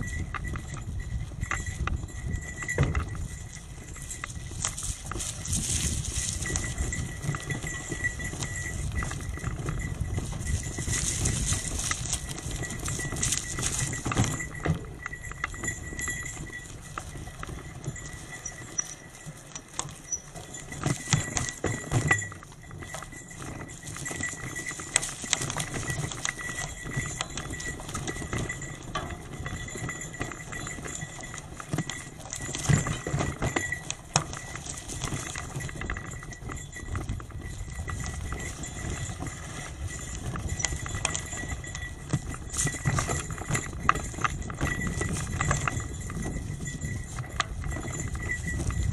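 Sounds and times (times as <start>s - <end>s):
bicycle rattling over rough road: 0.0s - 48.9s.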